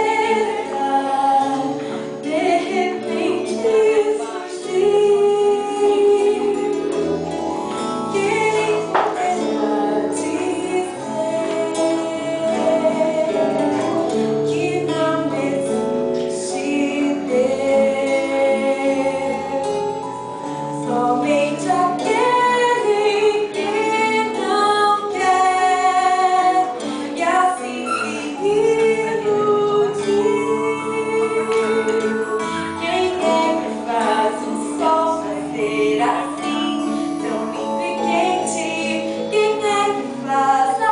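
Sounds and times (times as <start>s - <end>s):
instrumental accompaniment: 0.0s - 40.9s
woman singing: 0.0s - 40.9s.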